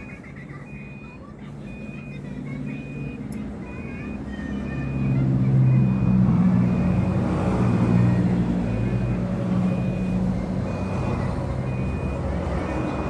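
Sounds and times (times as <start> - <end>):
reversing alarm beeps: 0.0 - 13.0
vehicle engine droning: 0.0 - 13.0.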